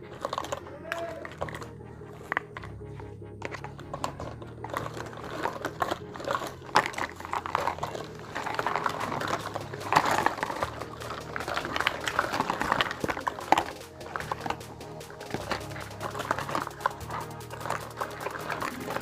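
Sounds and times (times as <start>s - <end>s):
packaging rustling: 0.0s - 19.0s
soft background music: 0.0s - 19.0s.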